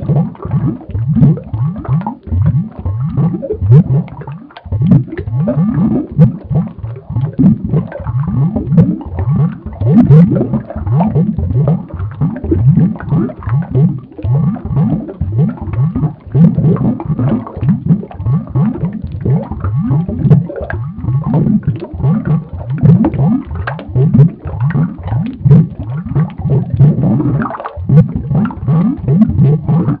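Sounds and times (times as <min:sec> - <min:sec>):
cartoon inflation creaks and gurgles: 0:00.0 - 0:30.0.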